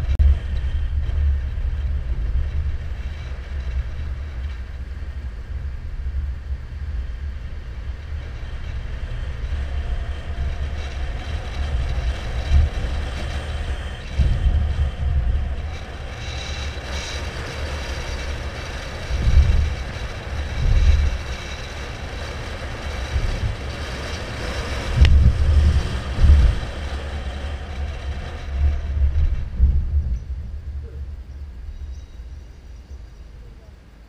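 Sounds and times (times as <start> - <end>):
road noise: 0.0 - 34.0
wind gusts: 0.0 - 34.0.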